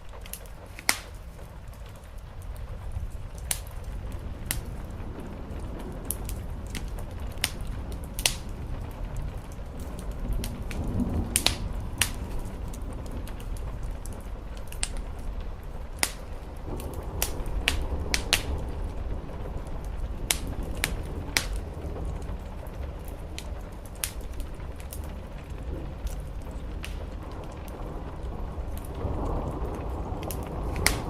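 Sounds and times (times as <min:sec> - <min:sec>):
rain: 0:00.0 - 0:31.0
wood fire crackling and popping: 0:00.0 - 0:31.0.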